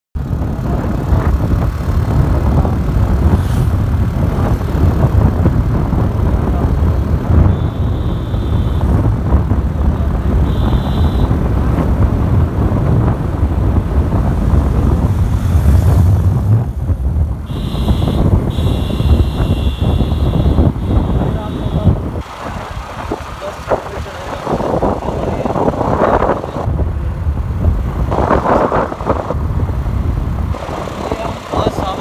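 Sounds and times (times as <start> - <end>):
motorcycle engine: 0.2 - 32.0
road noise: 0.2 - 32.0
wind buffeting microphone: 0.2 - 32.0.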